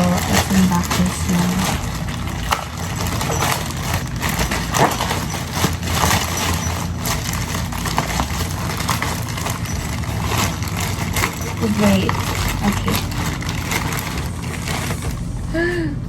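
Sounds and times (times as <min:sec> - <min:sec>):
packaging being torn open: 0:00.0 - 0:15.2.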